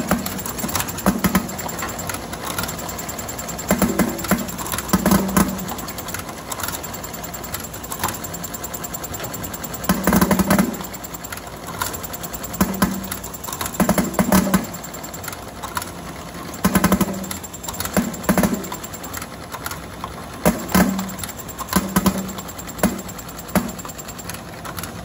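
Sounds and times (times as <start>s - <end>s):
machine clattering bursts: 0.0s - 25.0s
machine clicking: 0.0s - 25.0s.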